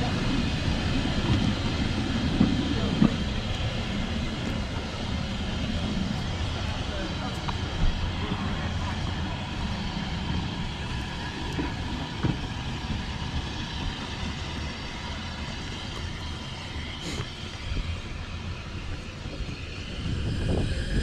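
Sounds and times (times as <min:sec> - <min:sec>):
steam locomotive rumbling: 0:00.0 - 0:21.0.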